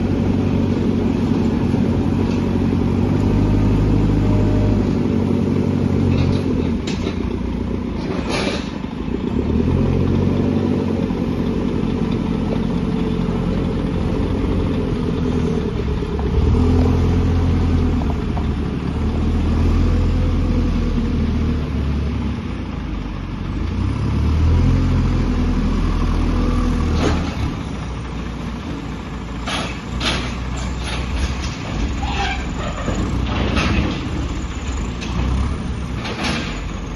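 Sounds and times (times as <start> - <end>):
diesel engine revving under load: 0.0 - 36.9.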